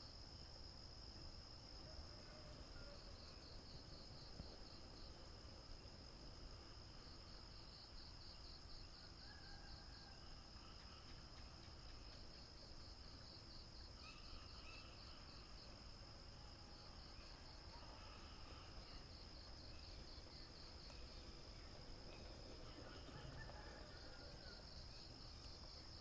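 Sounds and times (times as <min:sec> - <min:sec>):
crickets trilling: 0:00.1 - 0:26.0.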